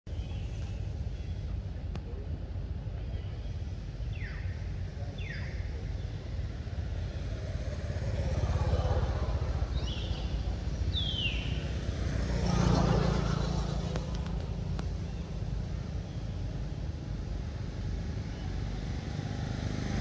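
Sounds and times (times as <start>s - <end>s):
road vehicle rumble: 0.1s - 20.0s.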